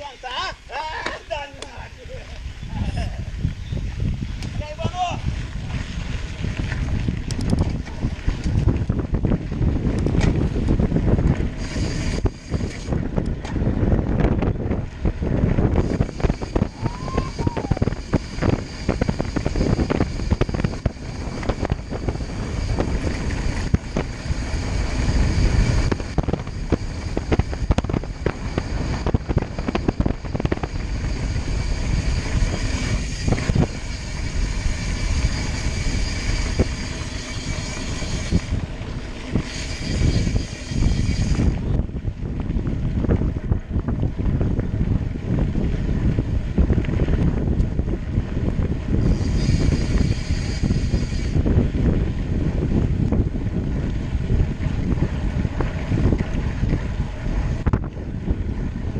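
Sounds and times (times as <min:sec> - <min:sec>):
wind buffeting the microphone: 0:00.0 - 0:58.9
moving vehicle running noise: 0:05.3 - 0:58.9.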